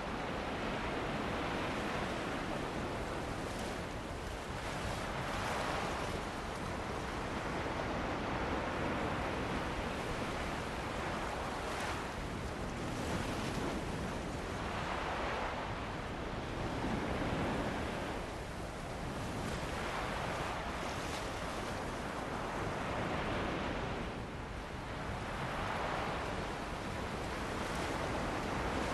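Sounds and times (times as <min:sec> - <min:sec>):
sea waves washing onto beach: 0:00.0 - 0:28.9.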